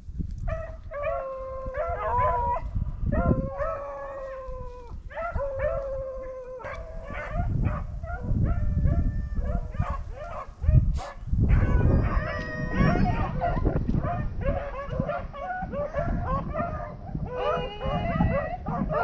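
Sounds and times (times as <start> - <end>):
wind rumble on microphone: 0.0 - 19.0
hounds baying: 0.5 - 19.0.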